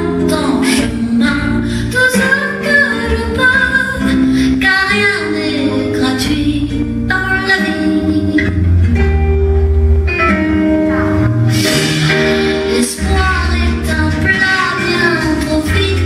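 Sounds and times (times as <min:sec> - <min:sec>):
instrumental accompaniment with bass: 0:00.0 - 0:16.0.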